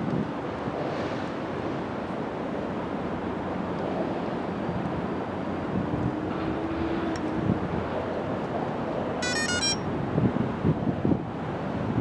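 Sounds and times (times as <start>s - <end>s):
wind buffeting microphone: 0.0s - 9.2s, 9.8s - 12.0s
ship engine low rumble: 0.0s - 12.0s.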